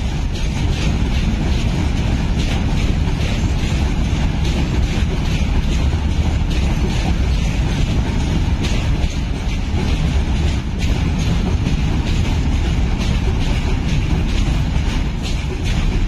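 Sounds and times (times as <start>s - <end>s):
train wheels rumbling on rail: 0.0s - 16.0s
wagon wheels clattering: 0.0s - 16.0s.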